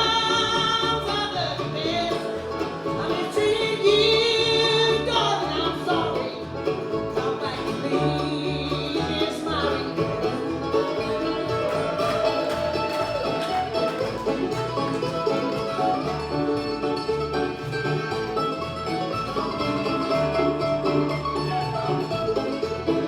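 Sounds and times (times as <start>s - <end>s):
banjo picking: 0.0s - 23.0s
bluegrass band playing: 0.0s - 23.0s
guitar picking: 0.0s - 23.0s.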